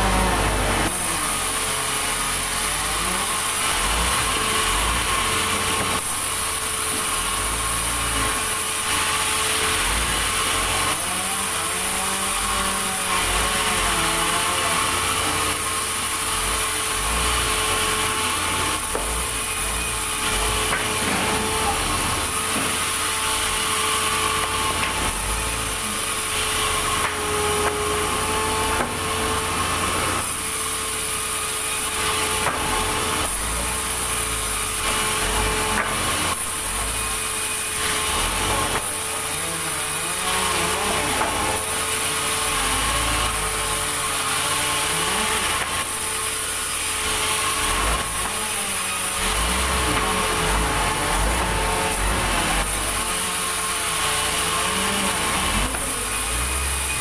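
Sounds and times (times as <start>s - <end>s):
band saw cutting wood: 0.0s - 57.0s.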